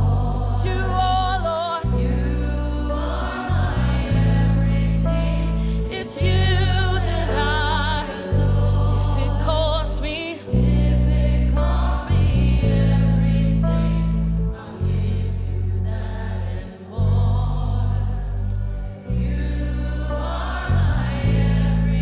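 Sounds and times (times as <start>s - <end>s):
heavy low chords: 0.0s - 22.0s
voices singing gospel: 0.0s - 22.0s.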